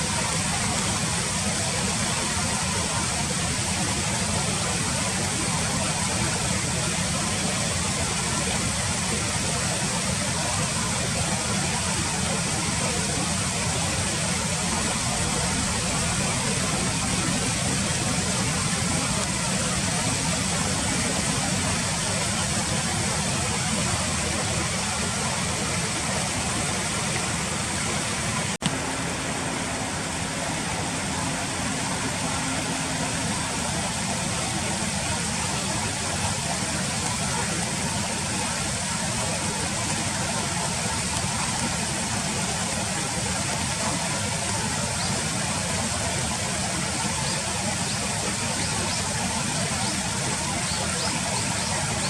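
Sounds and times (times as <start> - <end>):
steady rushing noise: 0.0 - 43.0.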